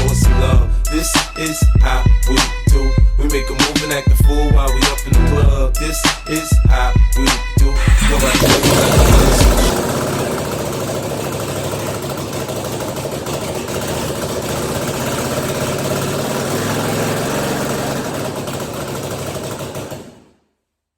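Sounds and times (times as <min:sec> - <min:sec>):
engine idling: 0:00.0 - 0:05.6, 0:07.6 - 0:20.4.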